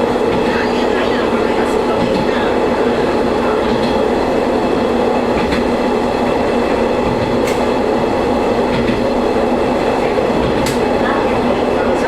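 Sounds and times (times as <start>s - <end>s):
train engine drone: 0.0s - 12.0s
wheel and rail noise: 0.0s - 12.0s.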